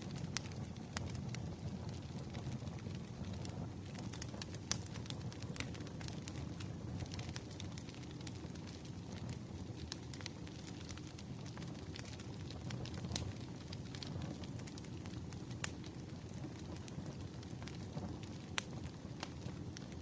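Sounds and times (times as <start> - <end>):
low rush of flames: 0.0 - 20.0
wood fire crackling and popping: 0.0 - 20.0.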